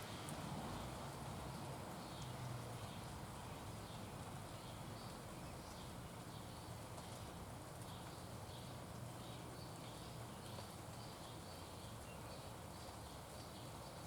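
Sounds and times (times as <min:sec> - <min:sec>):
outdoor hiss: 0:00.0 - 0:14.0.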